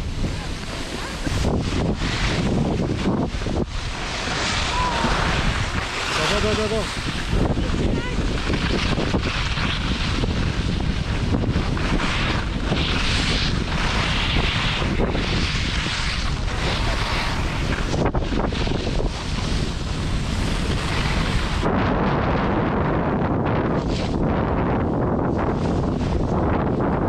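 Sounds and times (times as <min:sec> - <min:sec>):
skis scraping on packed snow: 0:00.0 - 0:22.2, 0:23.5 - 0:27.0
wind buffeting microphone: 0:00.0 - 0:27.0.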